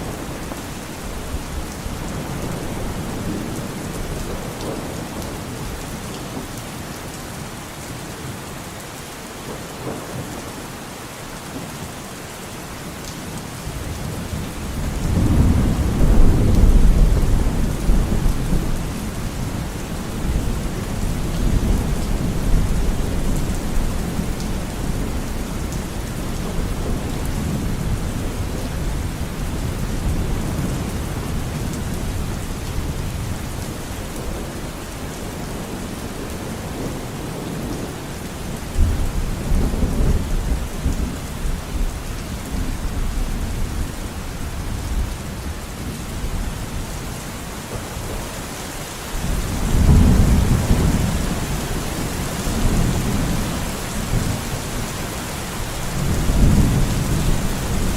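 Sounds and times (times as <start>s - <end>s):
rain falling in a forest: 0.0s - 57.9s.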